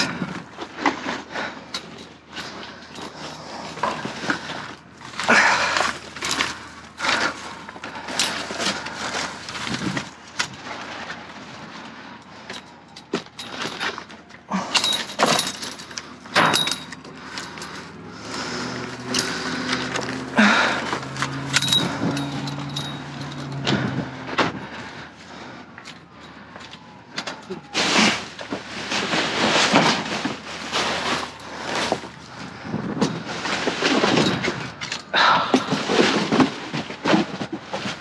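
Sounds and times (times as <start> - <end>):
rummaging through dumpster: 0.0 - 38.0.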